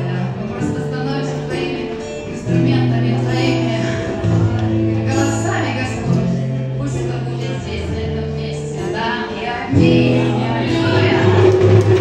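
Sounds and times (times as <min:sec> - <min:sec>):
acoustic guitar: 0:00.0 - 0:12.0
woman singing into a microphone: 0:00.0 - 0:12.0.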